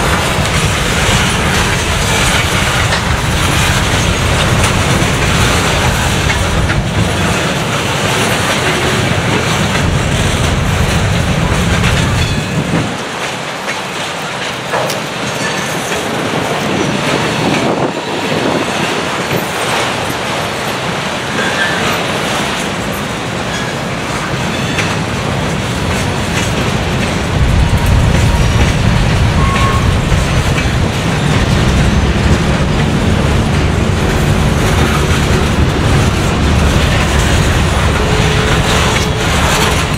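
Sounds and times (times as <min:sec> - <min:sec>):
train rumble: 0:00.0 - 0:39.9
wheels clicking over rail joints: 0:00.0 - 0:39.9.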